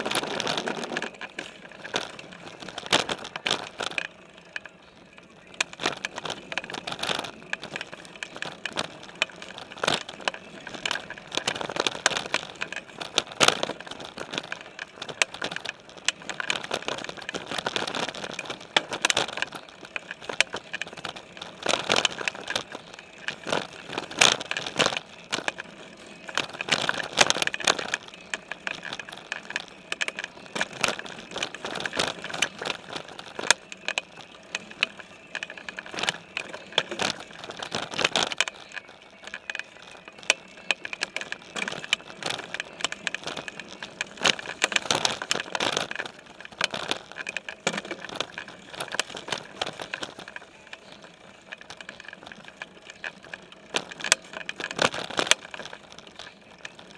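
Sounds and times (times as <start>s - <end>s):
mountain bike clattering over bumps: 0.0s - 56.9s
tyres crackling through leaves: 0.0s - 56.9s.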